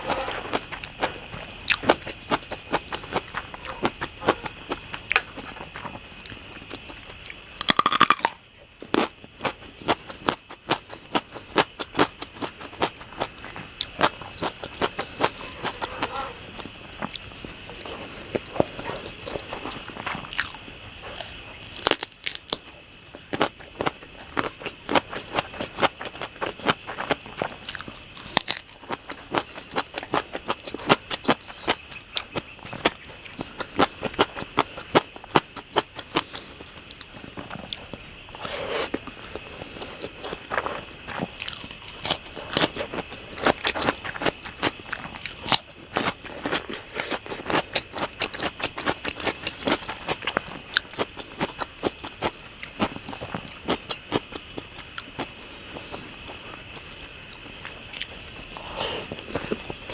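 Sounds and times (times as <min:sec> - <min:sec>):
high insect trill: 0:00.0 - 0:59.9
person chewing and smacking: 0:00.4 - 0:59.9.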